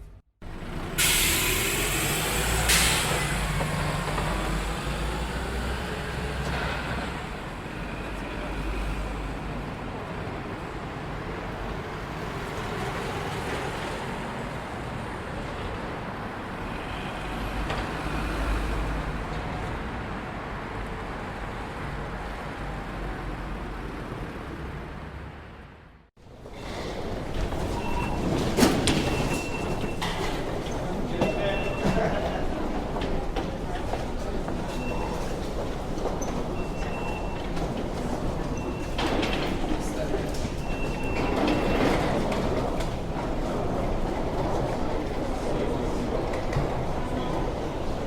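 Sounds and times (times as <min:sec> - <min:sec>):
road traffic rumble: 0:00.4 - 0:48.0.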